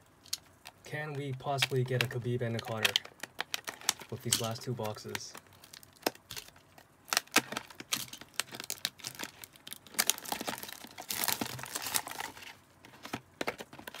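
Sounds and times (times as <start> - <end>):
packaging crinkling and tearing: 1.4 - 14.0.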